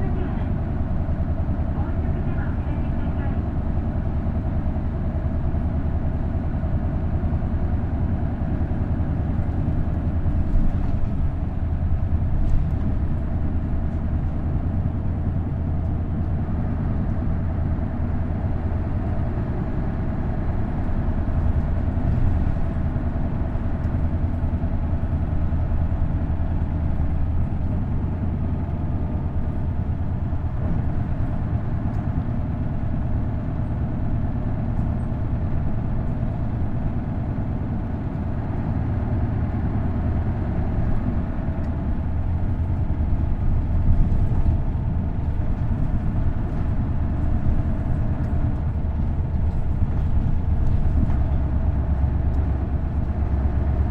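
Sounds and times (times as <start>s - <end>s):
diesel bus engine running: 0.0s - 53.9s.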